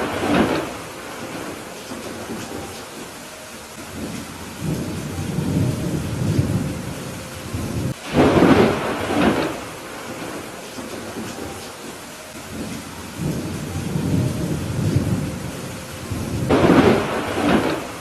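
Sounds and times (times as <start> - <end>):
thunder rumbling and cracking: 0.0 - 3.1, 3.7 - 18.0
steady rain hiss: 0.0 - 18.0.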